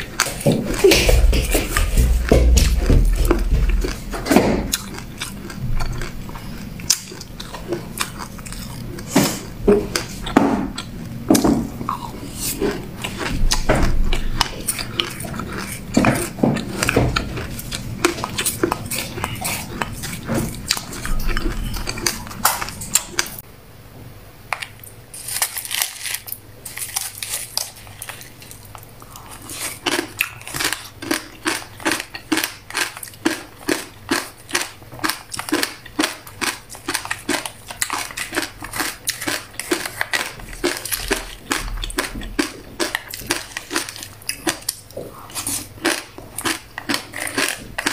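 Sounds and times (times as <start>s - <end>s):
crunchy chewing of seeds: 0.0s - 23.4s, 24.6s - 47.9s
rhythmic crunching of kernels: 0.0s - 23.4s, 24.5s - 47.9s.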